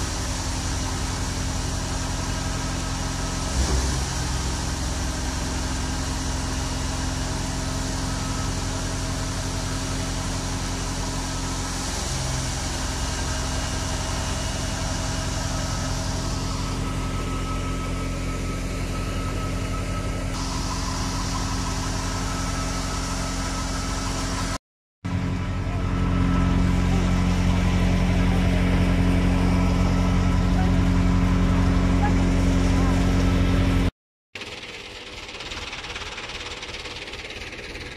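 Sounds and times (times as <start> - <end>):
thresher running: 0.0 - 37.9
tractor diesel engine running: 0.0 - 37.9.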